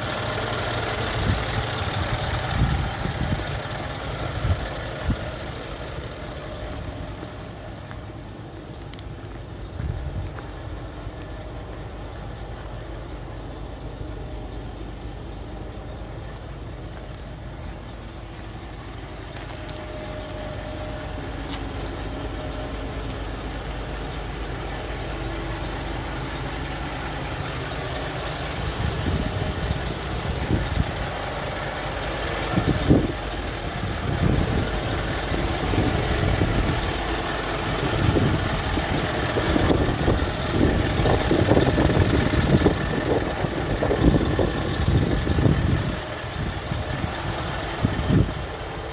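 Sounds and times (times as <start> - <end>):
diesel truck idling: 0.0 - 48.9.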